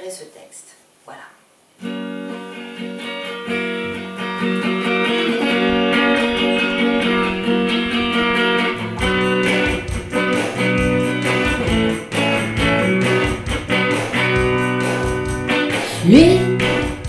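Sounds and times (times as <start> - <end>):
electric guitar chords: 1.8 - 17.0.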